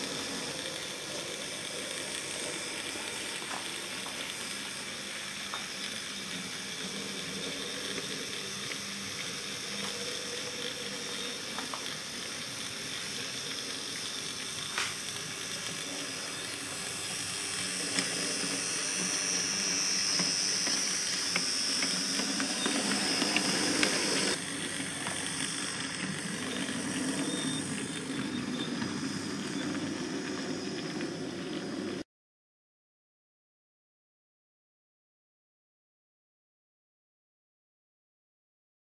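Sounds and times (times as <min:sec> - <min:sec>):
model train running on rails: 0:00.0 - 0:32.0.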